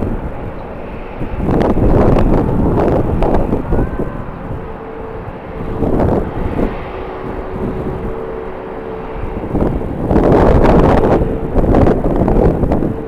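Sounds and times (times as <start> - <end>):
distant jet engines: 0.0 - 13.0
wind buffeting microphone: 0.0 - 13.0.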